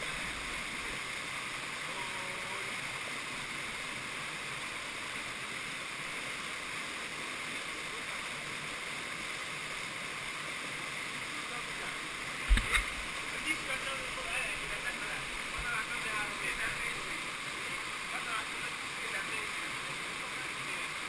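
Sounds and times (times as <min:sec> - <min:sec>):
mountain stream rushing: 0:00.0 - 0:21.0.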